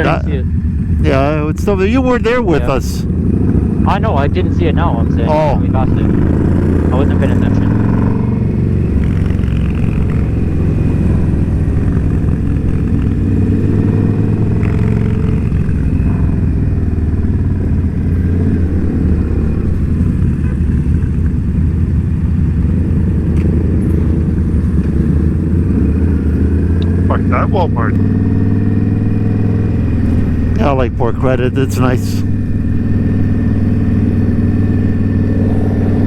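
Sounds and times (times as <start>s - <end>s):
motorcycle engine droning: 0.0s - 36.0s.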